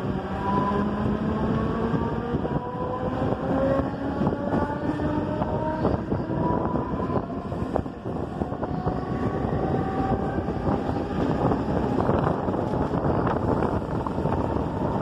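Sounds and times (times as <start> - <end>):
train traction motor whine: 0.0 - 15.0
train wheels rumbling on rails: 0.0 - 15.0
wind buffeting microphone: 0.0 - 15.0.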